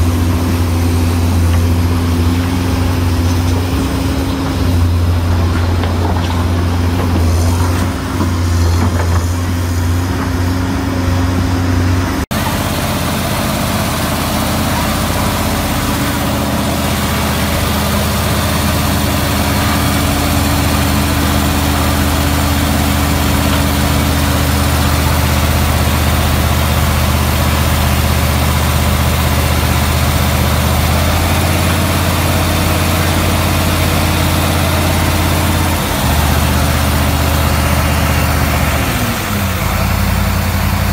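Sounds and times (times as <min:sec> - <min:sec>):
dump truck engine under load: 0:00.0 - 0:40.9
excavator diesel engine: 0:00.0 - 0:40.9.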